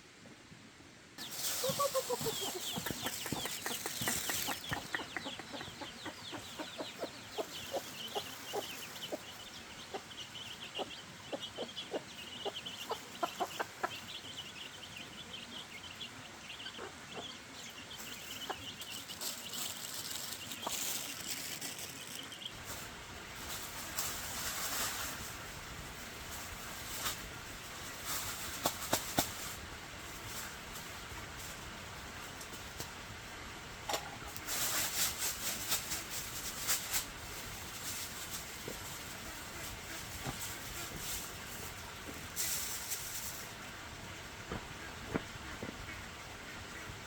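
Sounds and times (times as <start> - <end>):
chickens clucking: 1.2 - 32.9, 33.8 - 47.0.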